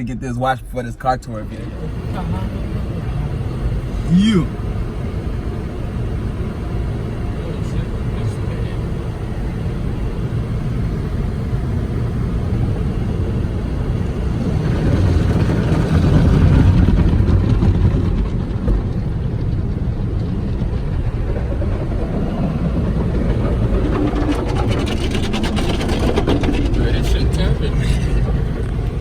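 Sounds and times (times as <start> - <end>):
motor vehicle rumbling: 0.0 - 29.0.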